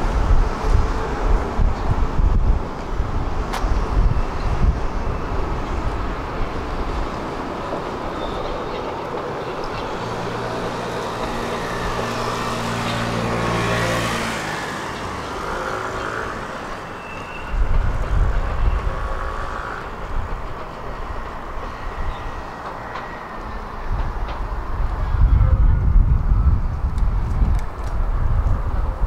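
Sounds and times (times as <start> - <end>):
wheel and rail noise: 0.0 - 29.0.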